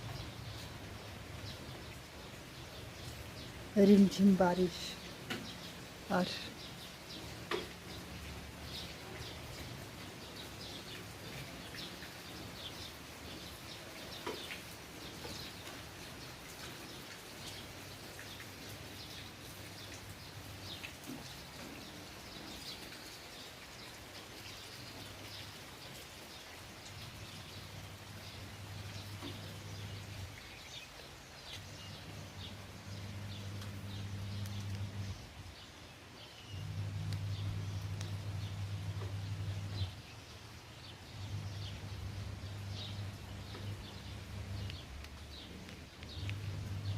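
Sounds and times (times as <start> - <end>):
light drizzle: 0.0 - 46.9
rainwater dripping and tapping: 0.0 - 46.9.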